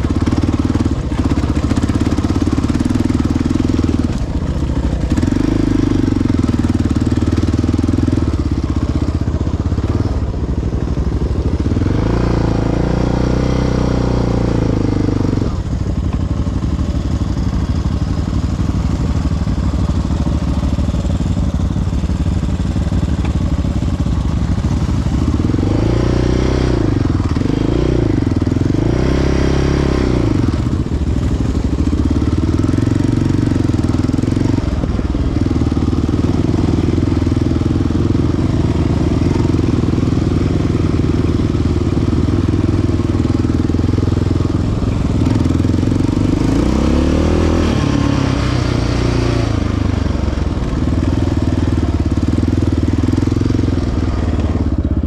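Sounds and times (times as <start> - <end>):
quad engine revving: 0.0 - 10.4, 11.3 - 15.7, 24.1 - 55.0.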